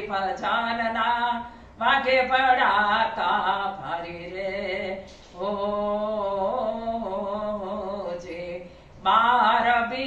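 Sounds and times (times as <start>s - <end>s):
woman singing unaccompanied: 0.0s - 10.0s.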